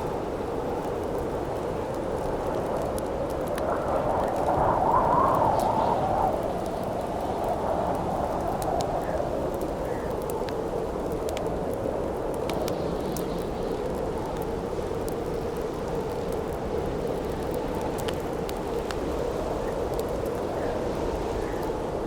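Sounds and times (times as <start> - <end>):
campfire crackling: 0.0 - 22.0
howling wind: 0.0 - 22.0.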